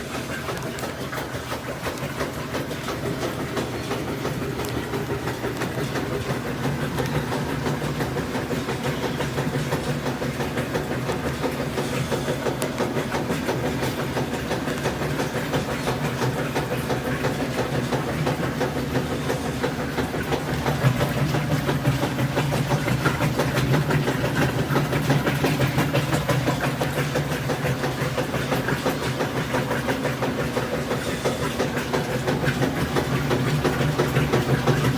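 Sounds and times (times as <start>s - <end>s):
washing machine drum pulsing: 0.0s - 34.9s
washing machine motor hum: 0.0s - 34.9s.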